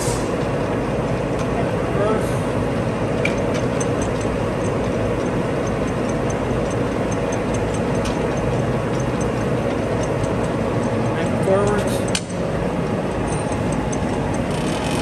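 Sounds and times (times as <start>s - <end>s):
lathe running: 0.2s - 15.0s.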